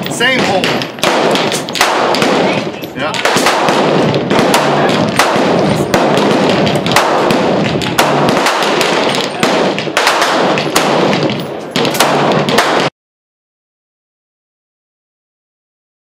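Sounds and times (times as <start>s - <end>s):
rifle shots with echo: 0.0s - 12.9s.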